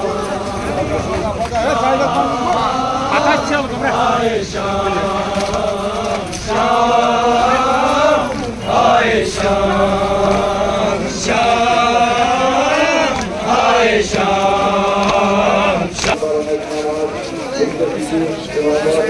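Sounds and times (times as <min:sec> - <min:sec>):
voices chanting a lament: 0:00.0 - 0:19.0.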